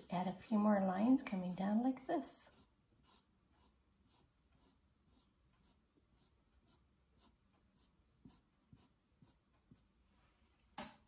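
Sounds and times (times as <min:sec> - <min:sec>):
marker scratching on paper: 0:00.0 - 0:10.0.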